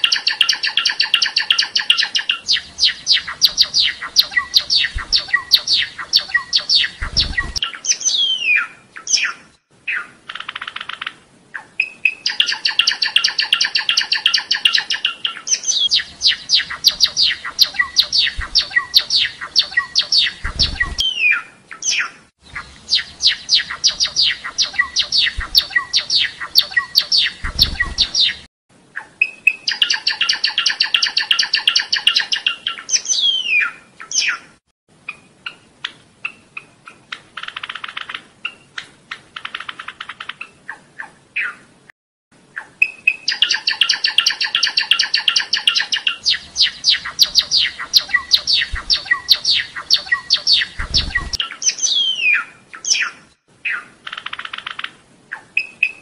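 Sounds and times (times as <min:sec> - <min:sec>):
sparrow singing: 0:00.0 - 0:35.6, 0:42.6 - 0:56.0.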